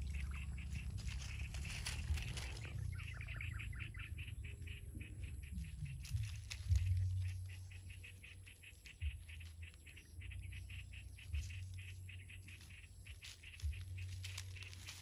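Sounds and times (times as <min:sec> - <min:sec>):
low rumble: 0:00.0 - 0:14.9.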